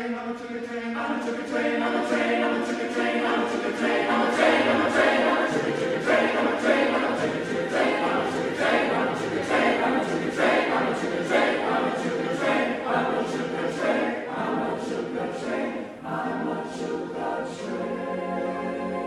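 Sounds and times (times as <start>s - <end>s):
chamber choir singing: 0.0s - 19.0s.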